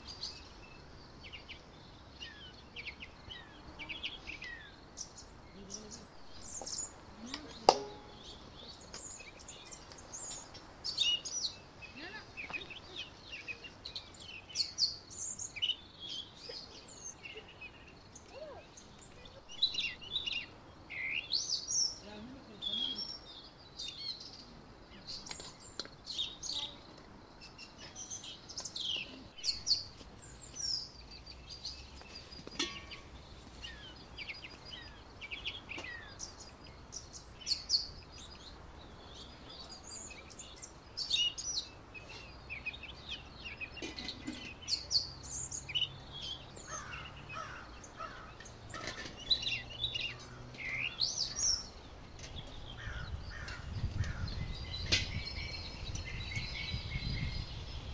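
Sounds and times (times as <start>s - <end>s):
songbirds chirping and singing: 0.0s - 57.9s.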